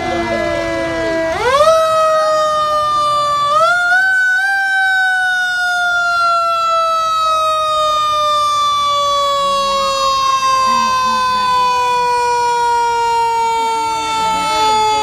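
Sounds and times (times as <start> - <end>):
fire engine siren wailing: 0.0 - 15.0.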